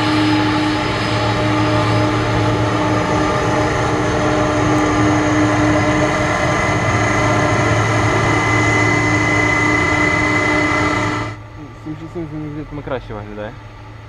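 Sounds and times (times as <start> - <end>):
jet engines whining and roaring: 0.0 - 14.0.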